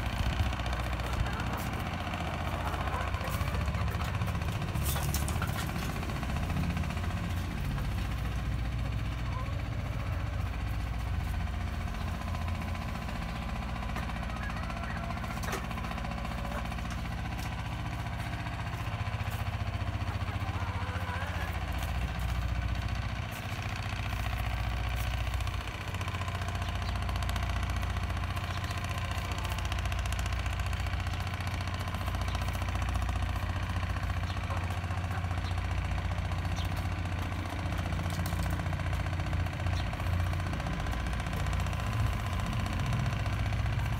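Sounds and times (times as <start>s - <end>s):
low engine hum: 0.0s - 43.9s.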